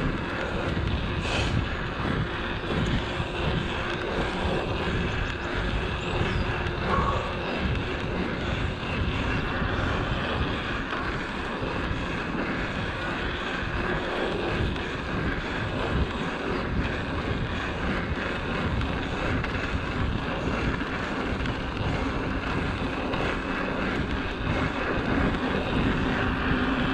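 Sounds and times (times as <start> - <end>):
bike tyres rolling on tarmac: 0.0 - 26.9
wind buffeting microphone: 0.0 - 26.9.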